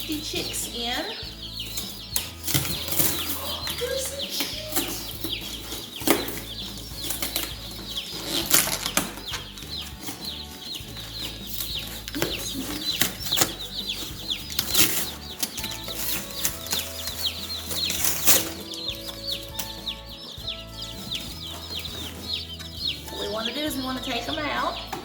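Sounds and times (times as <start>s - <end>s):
chicks peeping: 0.0s - 25.0s
knocks and rustles: 1.4s - 23.2s.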